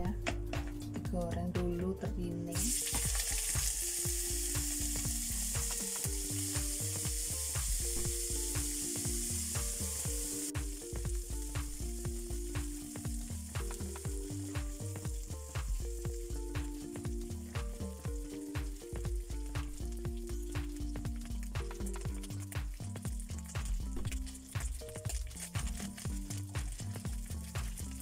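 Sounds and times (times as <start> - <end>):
background music: 0.0 - 28.0
fish sizzling in hot oil: 2.5 - 28.0.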